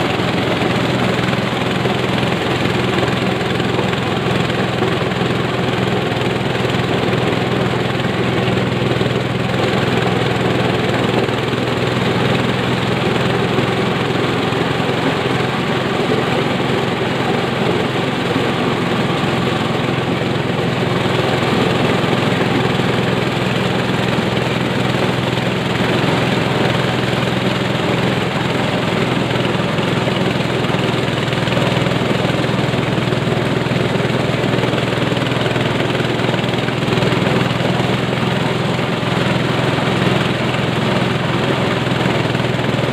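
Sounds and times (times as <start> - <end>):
corn sheller machine drone: 0.0 - 42.9.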